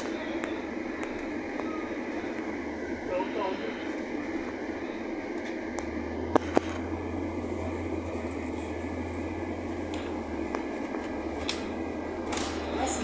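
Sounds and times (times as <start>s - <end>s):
bus engine hum: 0.0s - 13.0s.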